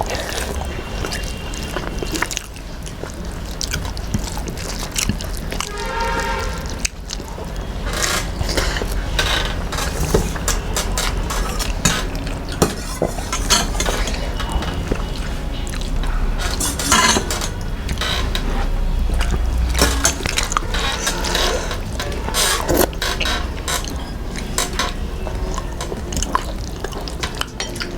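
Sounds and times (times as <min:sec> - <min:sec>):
dishes and cutlery clinking: 0:00.0 - 0:27.9.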